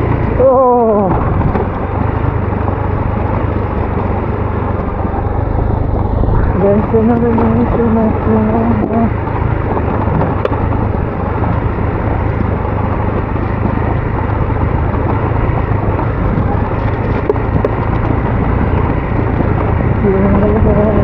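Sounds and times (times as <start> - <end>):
motorcycle engine running: 0.0 - 21.0
wind: 0.0 - 21.0.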